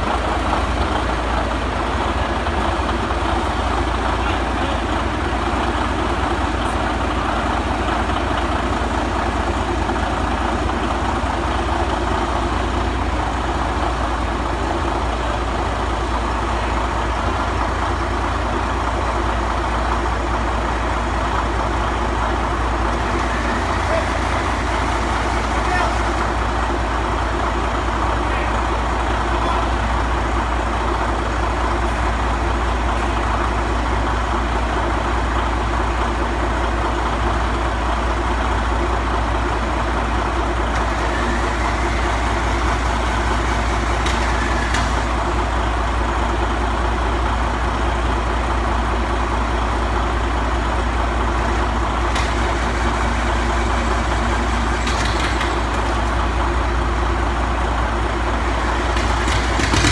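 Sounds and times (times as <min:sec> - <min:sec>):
crawler engine running: 0:00.0 - 0:59.9.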